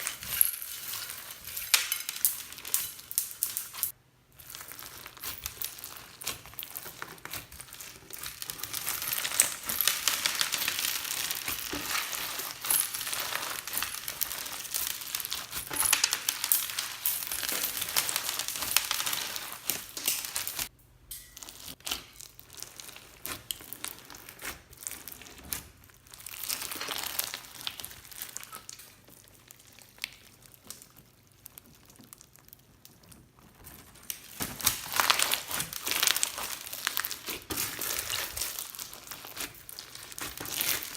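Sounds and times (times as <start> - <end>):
slime crackling and popping: 0.0 - 20.7, 21.4 - 40.9.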